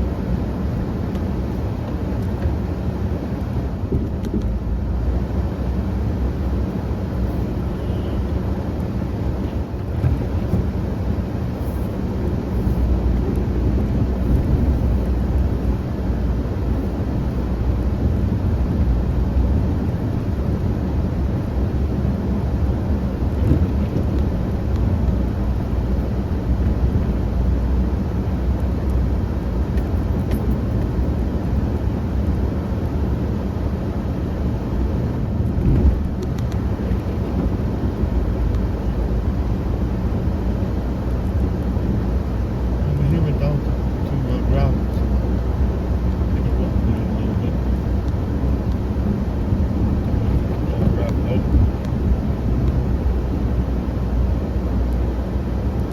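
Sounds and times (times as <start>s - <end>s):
snow-clearing vehicle engine rumble: 0.0s - 55.9s.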